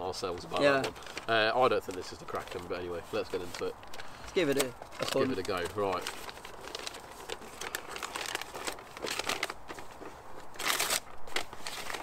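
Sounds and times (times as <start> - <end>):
paper crinkling and tearing: 0.2 - 12.0.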